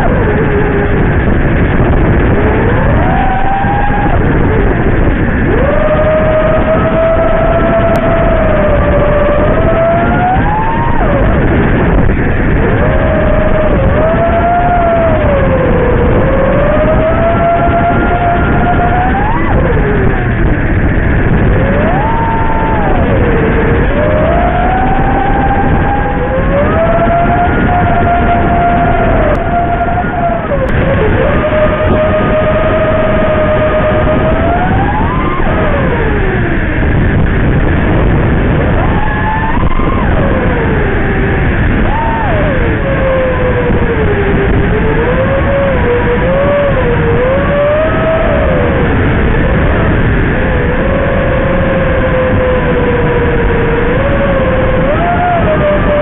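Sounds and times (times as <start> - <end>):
drone motor whine: 0.0 - 56.0
wind rush: 0.0 - 56.0.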